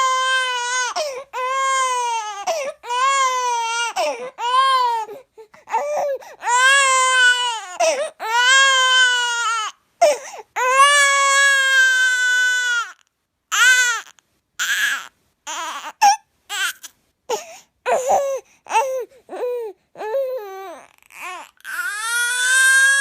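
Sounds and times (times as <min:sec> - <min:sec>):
baby crying: 0:00.0 - 0:23.0.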